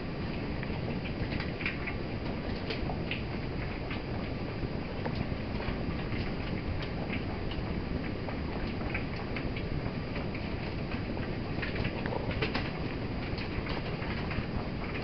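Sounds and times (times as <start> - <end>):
puppies chewing and lapping: 0.2 - 15.0.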